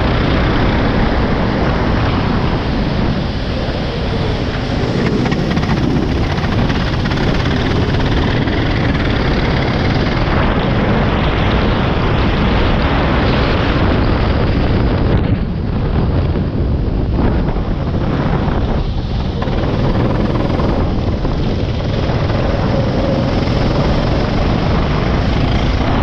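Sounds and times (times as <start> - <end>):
wet track noise: 0.0 - 14.7, 16.1 - 26.0
go-kart engine running: 0.0 - 26.0
wind rush: 0.0 - 26.0.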